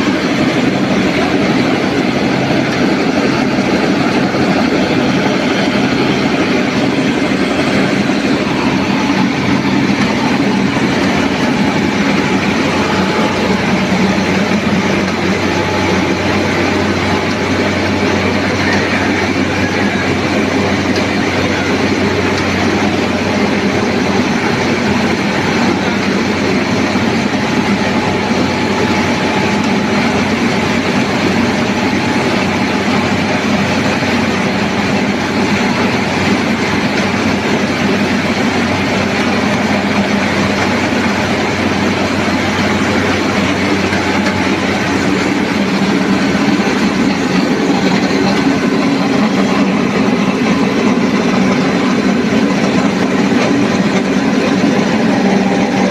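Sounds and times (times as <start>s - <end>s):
rice milling machine running: 0.0s - 55.9s.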